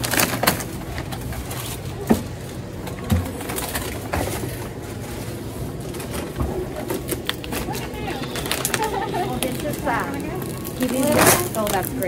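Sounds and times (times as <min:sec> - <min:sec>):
low steady hum: 0:00.0 - 0:12.0
packs knocking against carts: 0:00.0 - 0:12.0
plastic packaging crinkling: 0:00.0 - 0:12.0.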